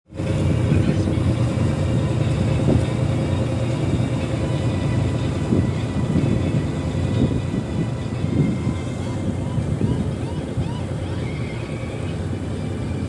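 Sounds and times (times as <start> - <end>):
boat diesel engine droning: 0.1 - 13.0.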